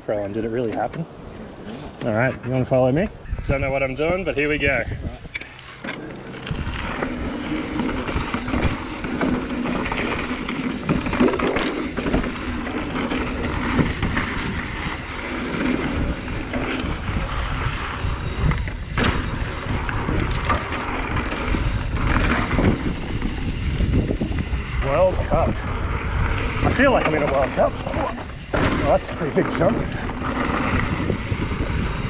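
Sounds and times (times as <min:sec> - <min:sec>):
bike rattling and knocking: 0:05.4 - 0:32.0
bike tyres over dirt and stones: 0:05.4 - 0:32.0.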